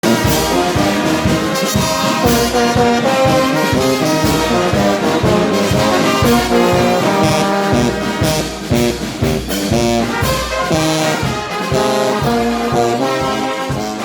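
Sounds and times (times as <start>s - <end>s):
brass melody: 0.0s - 14.0s
steady drum beat: 0.0s - 14.0s.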